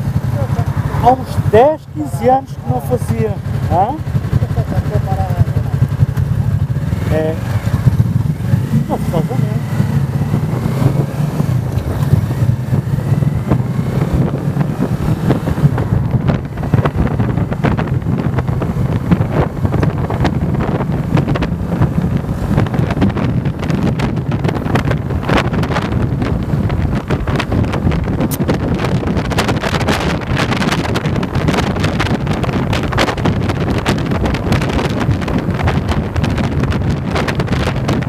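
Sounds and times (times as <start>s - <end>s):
motorcycle engine running: 0.0s - 38.0s
wind buffeting microphone: 0.0s - 38.0s.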